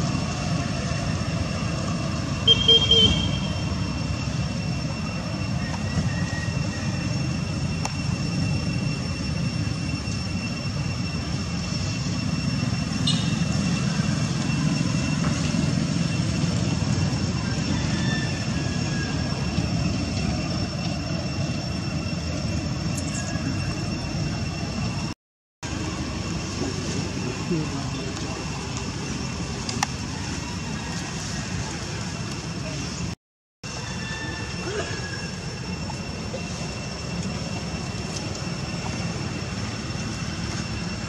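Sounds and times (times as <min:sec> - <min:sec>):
high whine: 0:00.0 - 0:41.0.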